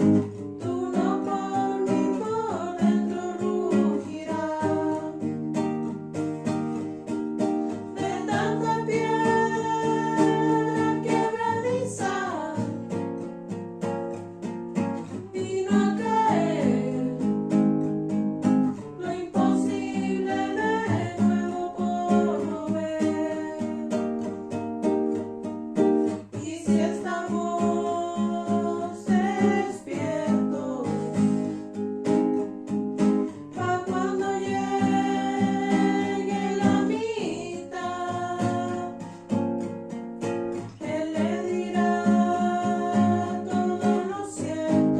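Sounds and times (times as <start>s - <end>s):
strummed guitar: 0.0s - 44.9s.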